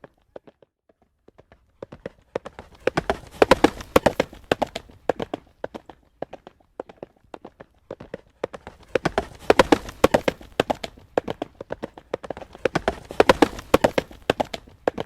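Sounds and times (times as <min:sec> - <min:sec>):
horse hooves trotting on road: 0:00.0 - 0:15.0.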